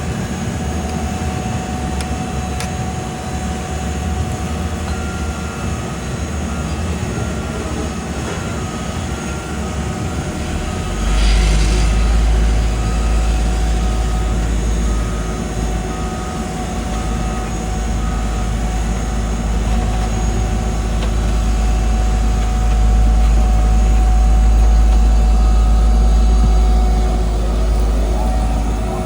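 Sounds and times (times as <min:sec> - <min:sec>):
heavy diesel machinery rumbling: 0:00.0 - 0:29.0
reversing alarm beeping: 0:00.6 - 0:29.0.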